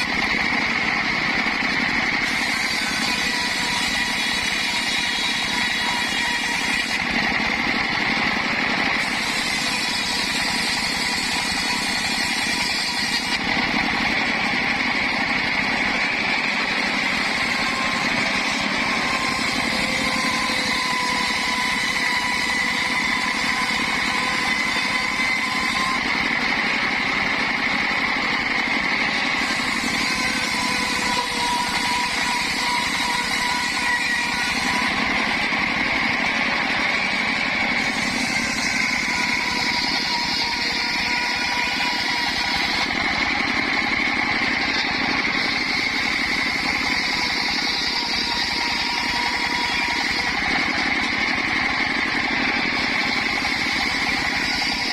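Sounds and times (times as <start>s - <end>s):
circular saw whining: 0.0s - 54.9s.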